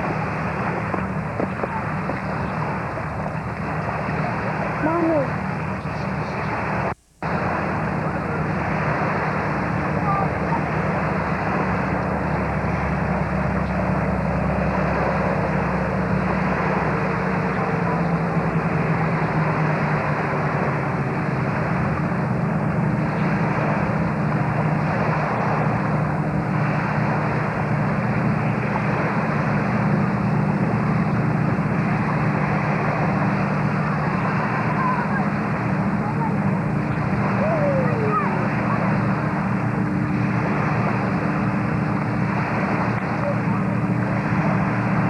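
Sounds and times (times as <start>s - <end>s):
constant rushing noise: 0.0s - 45.0s
engine humming: 0.0s - 45.0s.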